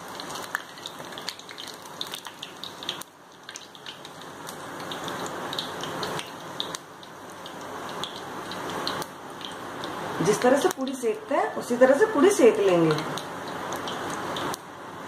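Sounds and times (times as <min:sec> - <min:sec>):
deep-frying sizzle with pops: 0:00.0 - 0:15.0.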